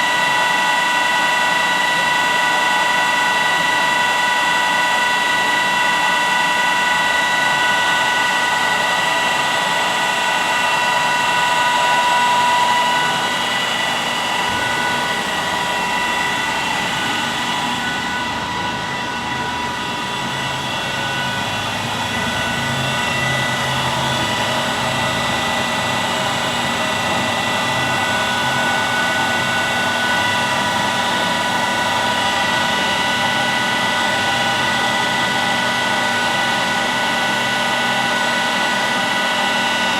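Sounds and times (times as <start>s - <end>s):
machining center whining: 0.1s - 39.7s.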